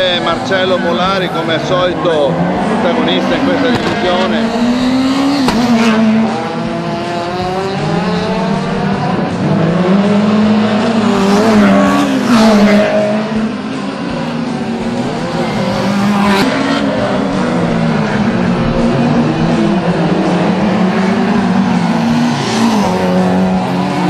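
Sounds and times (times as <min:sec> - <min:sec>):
car engines revving hard: 0:00.0 - 0:24.0.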